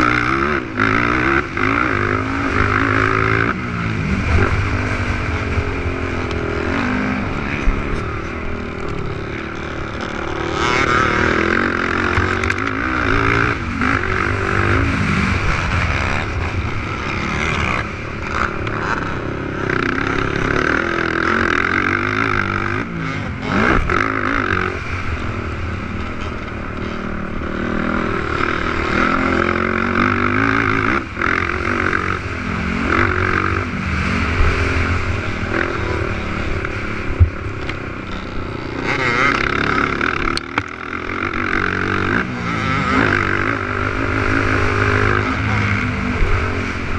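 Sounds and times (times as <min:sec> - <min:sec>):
quad engines revving: 0:00.0 - 0:46.9.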